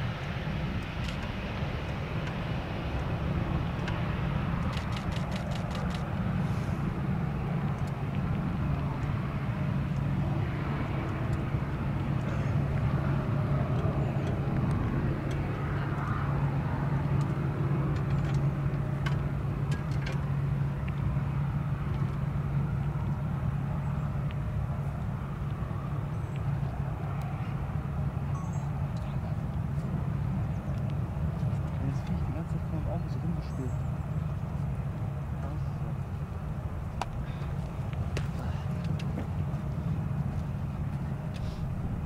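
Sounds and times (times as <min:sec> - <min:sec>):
jet engines at taxi power: 0:00.0 - 0:42.0.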